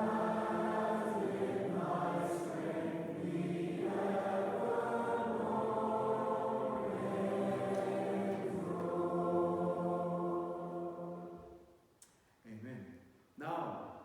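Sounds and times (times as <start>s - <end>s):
choir singing sustained notes: 0.0s - 11.8s.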